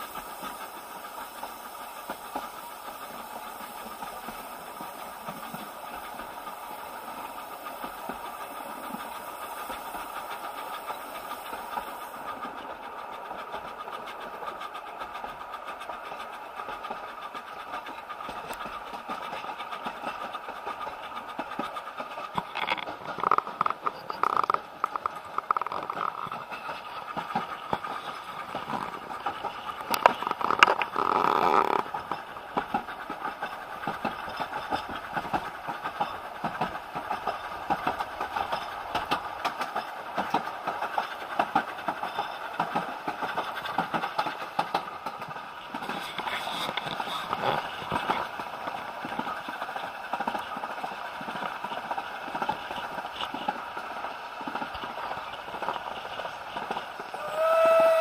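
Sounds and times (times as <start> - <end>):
train wheels clicking on rails: 0.0 - 58.0.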